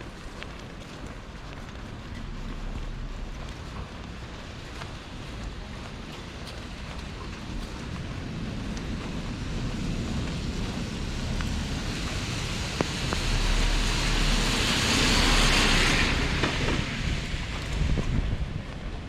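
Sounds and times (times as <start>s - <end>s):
rain falling: 0.0s - 19.0s
vehicle tyres hissing on wet road: 0.0s - 19.0s.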